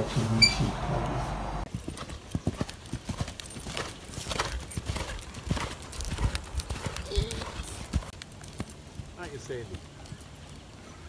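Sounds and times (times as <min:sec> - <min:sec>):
horse hooves on sand: 0:00.0 - 0:10.8.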